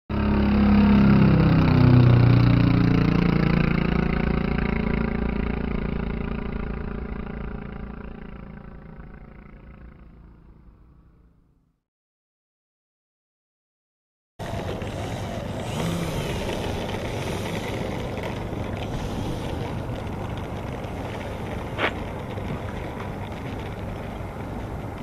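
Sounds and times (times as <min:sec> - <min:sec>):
engine running: 0:00.1 - 0:11.7, 0:14.4 - 0:25.0.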